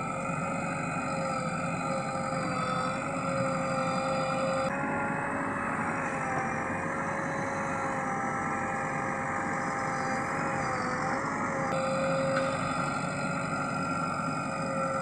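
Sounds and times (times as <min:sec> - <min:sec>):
backhoe engine and hydraulic drone: 0:00.0 - 0:15.0
hydraulic whine: 0:00.0 - 0:15.0.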